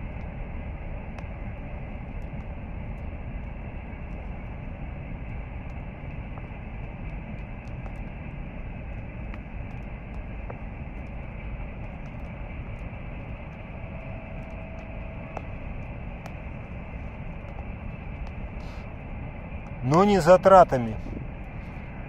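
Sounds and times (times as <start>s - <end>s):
campfire crackling and popping: 0.0s - 22.0s
steady low rumble: 0.0s - 22.0s.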